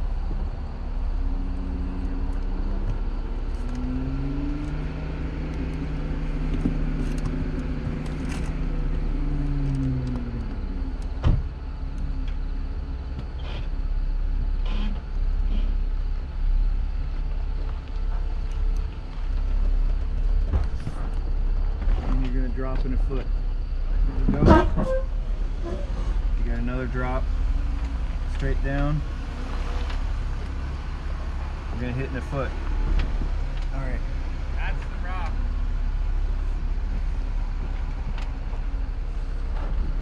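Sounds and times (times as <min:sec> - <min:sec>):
low rumble: 0:00.0 - 0:40.0
off-road vehicle engine running: 0:00.0 - 0:40.0.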